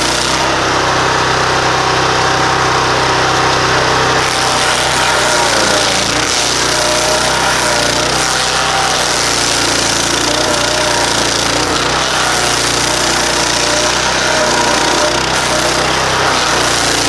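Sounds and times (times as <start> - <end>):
stump grinder grinding wood: 0.0 - 17.0.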